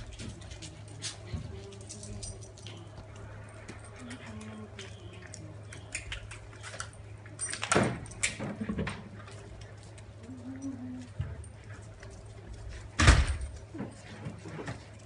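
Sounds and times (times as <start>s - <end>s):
dog collars jingling: 0.0s - 15.0s
steady low hum: 0.0s - 15.0s.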